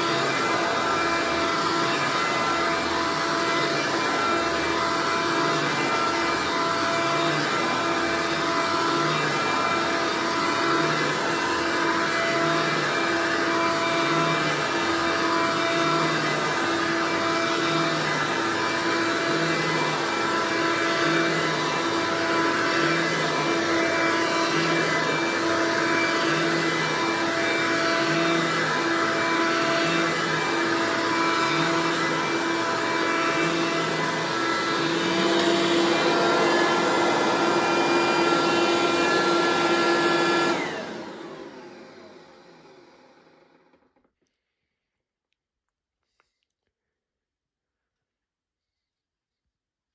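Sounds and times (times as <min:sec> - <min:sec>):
vacuum cleaner running on carpet: 0:00.0 - 0:43.8
vacuum motor winding down: 0:00.0 - 0:43.9.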